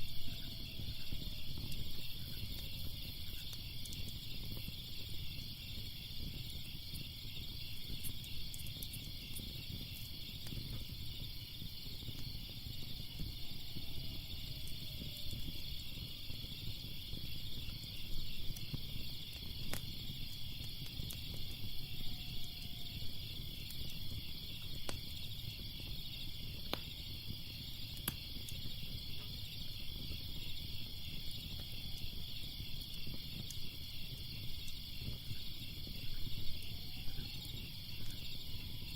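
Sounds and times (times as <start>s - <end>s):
crickets chirping: 0.0s - 38.9s
fire crackling: 0.0s - 38.9s
fire popping: 0.0s - 38.9s.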